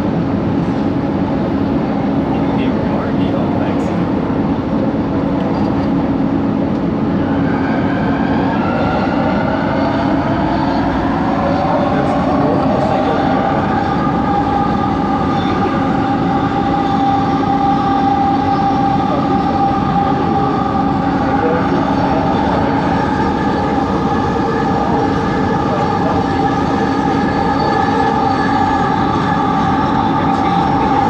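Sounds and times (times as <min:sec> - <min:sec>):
train running gear rumble: 0:00.0 - 0:31.0
traction motor whine: 0:02.4 - 0:31.0.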